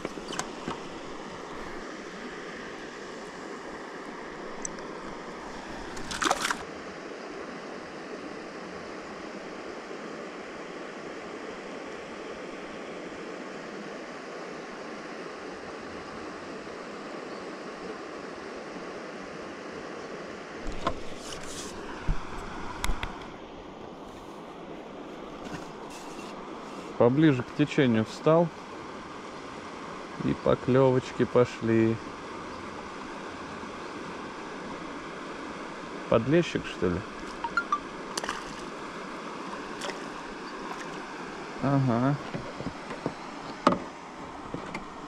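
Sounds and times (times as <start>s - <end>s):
rushing water: 0.0s - 17.0s, 25.7s - 45.0s.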